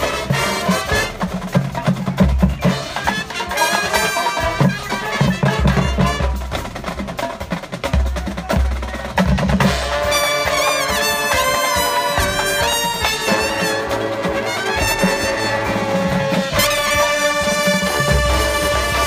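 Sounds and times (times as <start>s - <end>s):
snare drum strokes: 0.0s - 19.0s.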